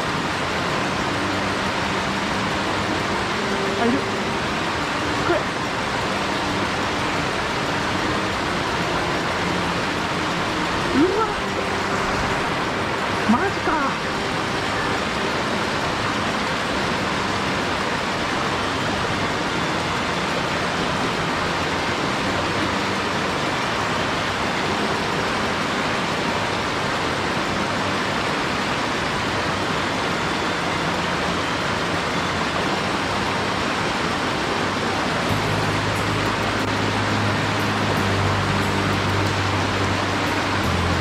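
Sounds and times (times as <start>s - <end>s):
stream rushing over rocks: 0.0s - 41.0s.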